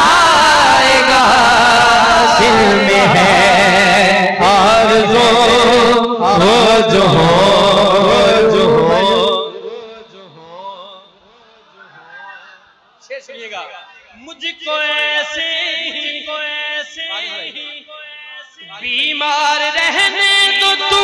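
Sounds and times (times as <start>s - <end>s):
voices singing devotional poem: 0.0s - 12.6s, 14.1s - 21.0s.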